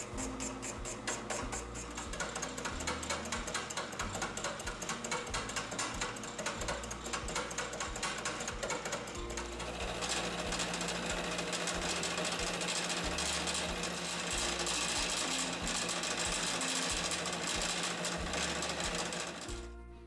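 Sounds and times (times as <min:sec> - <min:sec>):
soft background music: 0:00.0 - 0:20.0
milling machine clattering on metal: 0:00.1 - 0:19.6.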